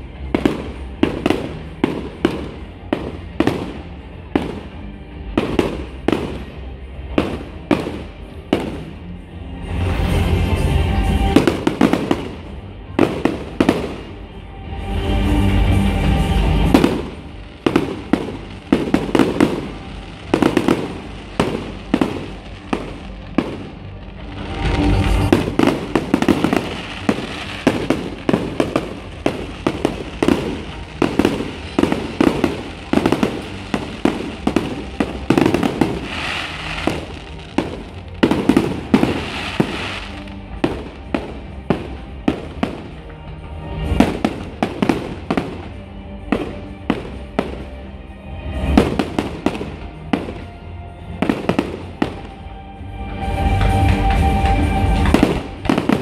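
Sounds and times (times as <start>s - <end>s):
fireworks bangs and crackling: 0.0s - 56.0s
music: 0.0s - 56.0s
deep fireworks booms: 0.2s - 9.0s, 10.0s - 14.2s, 16.3s - 47.8s, 48.5s - 52.5s, 53.4s - 56.0s.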